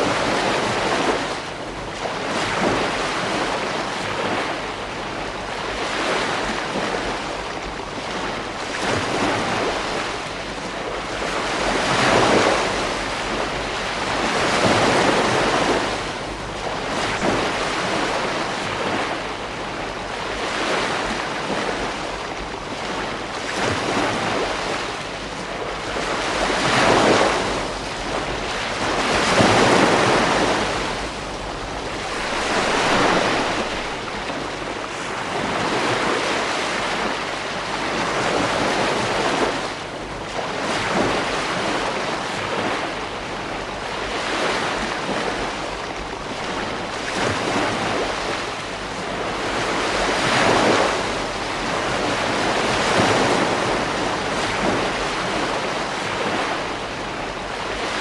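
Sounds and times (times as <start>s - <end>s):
ocean waves breaking on beach: 0.0s - 58.0s
wind rumble on microphone: 0.0s - 58.0s.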